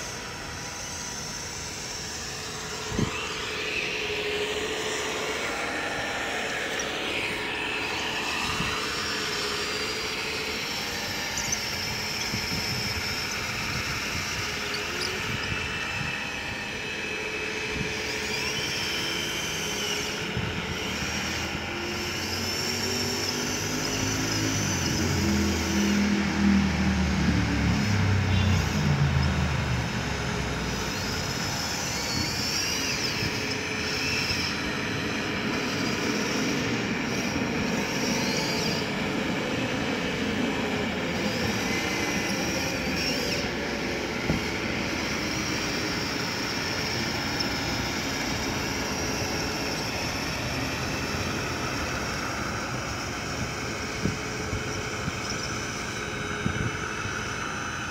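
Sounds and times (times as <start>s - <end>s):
electric motors whining: 0.0s - 57.9s.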